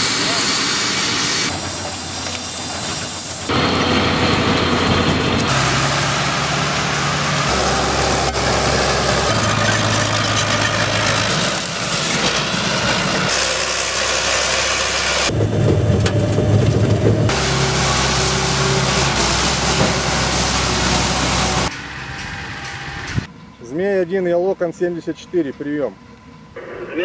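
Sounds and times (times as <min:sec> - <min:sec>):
heavy tracked vehicle diesel engines: 0:00.0 - 0:27.0.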